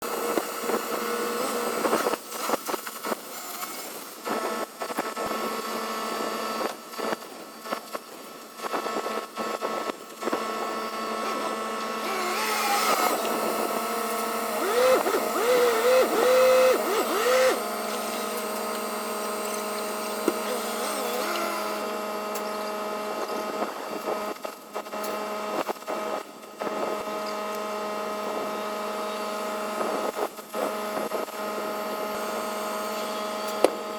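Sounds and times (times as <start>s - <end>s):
forklift whine and hum: 0.0s - 33.9s.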